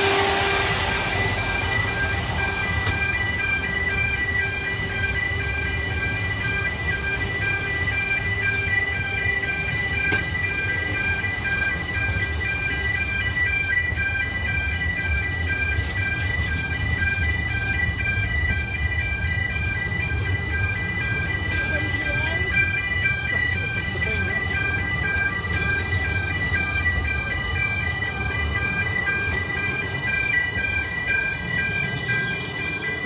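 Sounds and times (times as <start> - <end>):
level crossing alarm pulsing: 0.0 - 33.0
railway carriages rumbling: 0.0 - 33.0.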